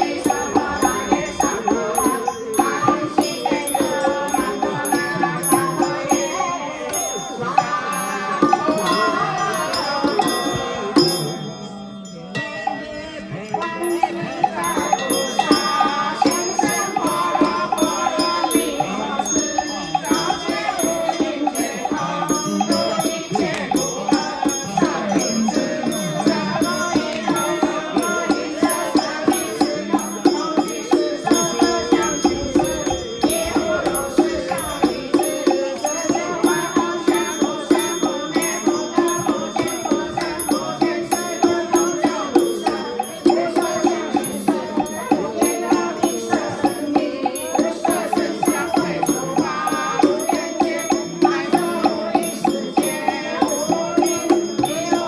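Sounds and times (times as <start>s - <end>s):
bells ringing: 0.0s - 55.0s
percussion strikes: 0.0s - 55.0s
ritual chanting: 0.0s - 55.0s.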